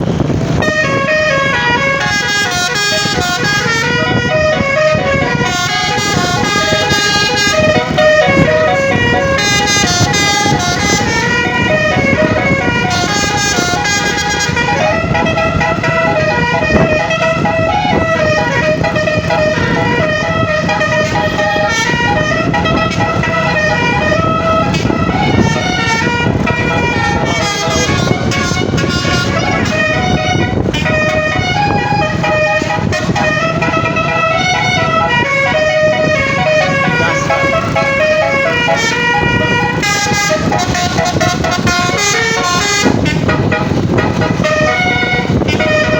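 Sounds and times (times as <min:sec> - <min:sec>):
musical bus horn playing melody: 0:00.0 - 0:45.9
steady low rumble: 0:00.0 - 0:45.9.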